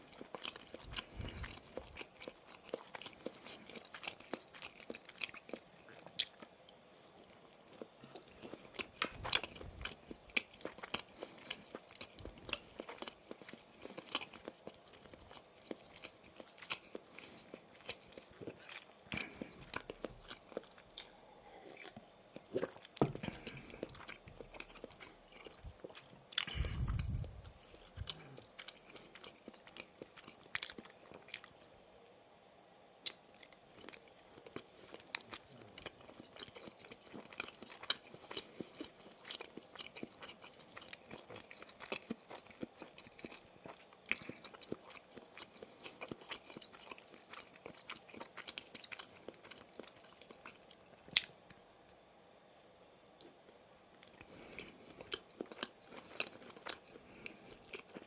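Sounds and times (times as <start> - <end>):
chewing and biting sausage: 0.0 - 6.8, 7.5 - 21.2, 21.8 - 31.6, 33.1 - 51.7, 53.2 - 58.0.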